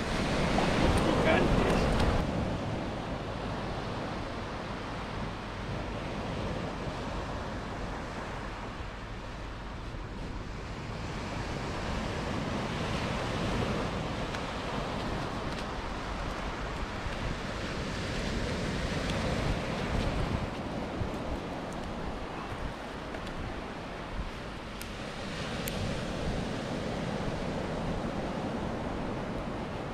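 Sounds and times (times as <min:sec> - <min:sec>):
ocean surf breaking on beach: 0:00.0 - 0:29.9
wind rumble on microphone: 0:00.0 - 0:29.9.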